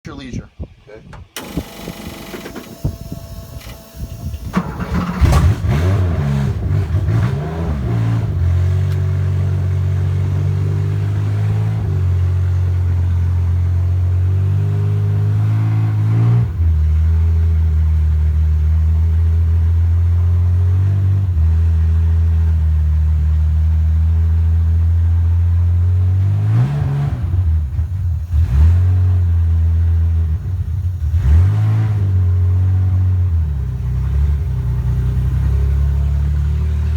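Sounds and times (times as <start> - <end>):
race car engine starting and idling: 1.1 - 36.9.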